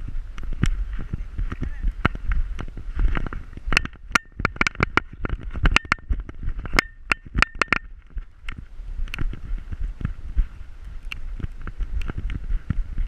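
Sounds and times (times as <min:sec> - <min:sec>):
wind and movement rumble: 0:00.0 - 0:13.0.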